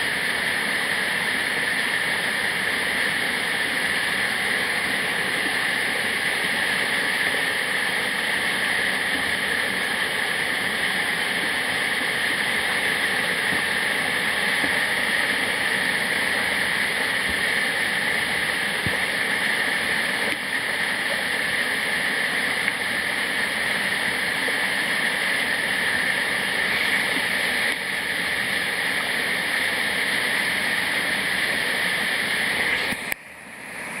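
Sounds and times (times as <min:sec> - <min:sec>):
waterfall rushing: 0:00.0 - 0:33.1.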